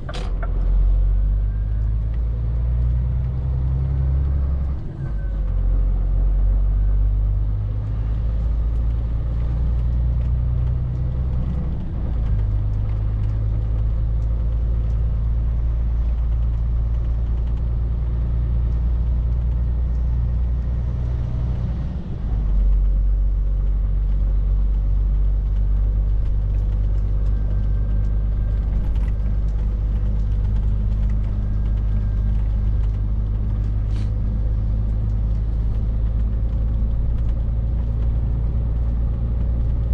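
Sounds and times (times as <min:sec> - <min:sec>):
lorry diesel engine drone: 0:00.0 - 0:39.9.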